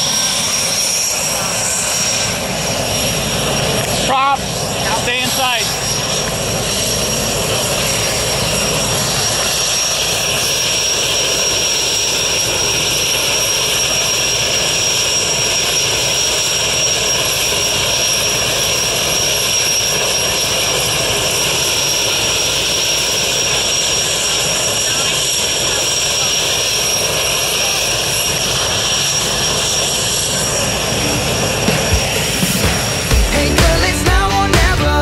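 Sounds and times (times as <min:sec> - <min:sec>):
aircraft engine droning: 0:00.0 - 0:35.0
high whine: 0:00.0 - 0:35.0.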